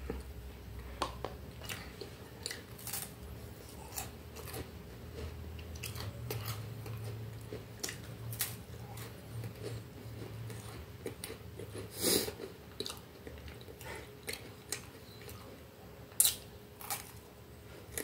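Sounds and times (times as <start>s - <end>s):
cracker crunching: 1.6s - 15.0s, 16.1s - 17.3s.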